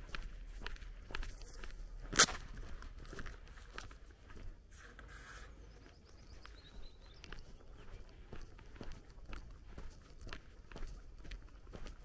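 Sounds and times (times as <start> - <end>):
faint footsteps on pavement: 0.0 - 12.0
small birds chirping: 0.0 - 12.0.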